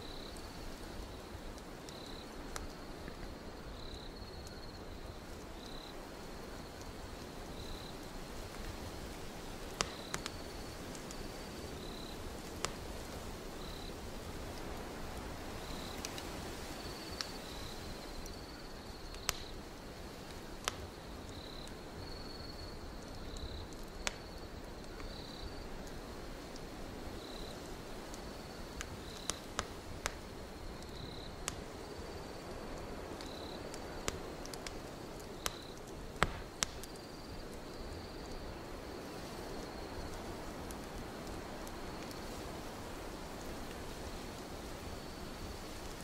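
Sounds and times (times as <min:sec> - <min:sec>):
cricket chirping: 0:00.0 - 0:46.0
wood fire crackling and popping: 0:00.0 - 0:46.0.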